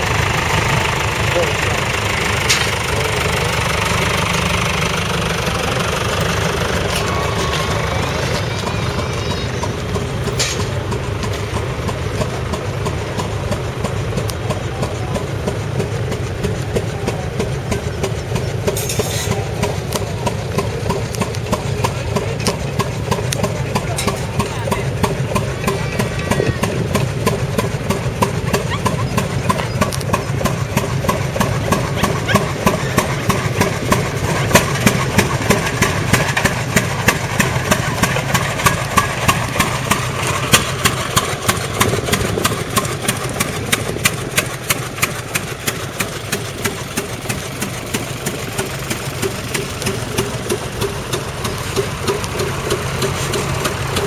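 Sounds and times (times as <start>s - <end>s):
tractor engines hum: 0.0s - 54.0s
tractor exhaust beat: 0.0s - 54.0s.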